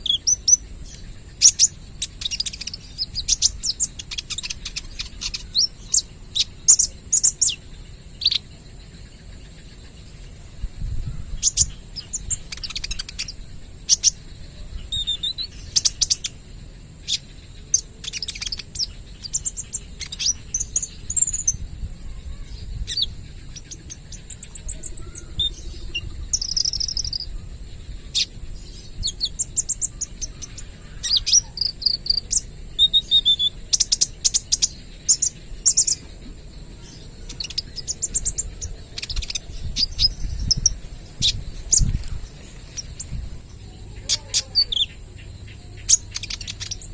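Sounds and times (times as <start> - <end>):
bird twittering: 0.0 - 46.9.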